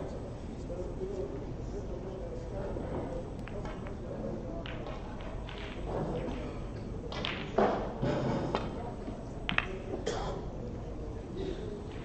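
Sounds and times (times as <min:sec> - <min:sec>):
murmur of large hall: 0:00.0 - 0:12.0.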